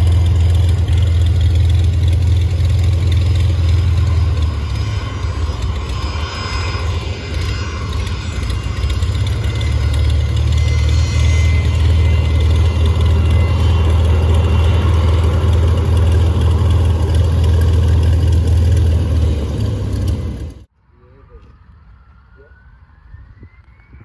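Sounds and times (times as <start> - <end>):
faint turbine whine: 0.0 - 24.0
jet engines rumbling: 0.0 - 24.0.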